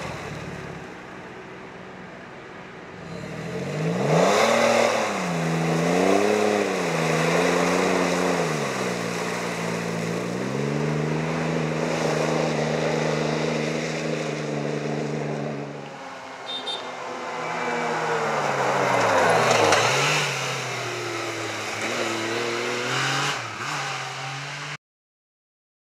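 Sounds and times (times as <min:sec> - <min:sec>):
truck engine revving in mud: 0:02.9 - 0:24.8
approaching vehicle engine: 0:03.0 - 0:24.8.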